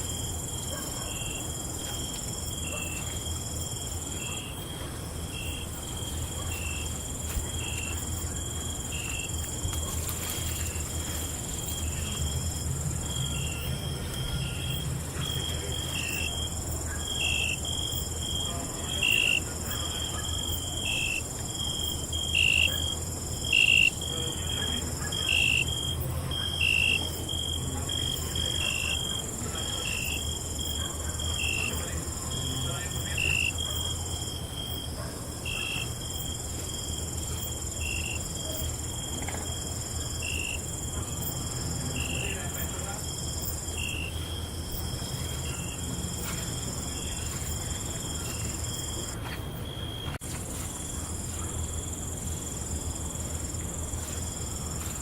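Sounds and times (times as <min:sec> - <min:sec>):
cricket chirping in pulses: 0:00.0 - 0:50.2
cricket trilling: 0:00.0 - 0:55.0.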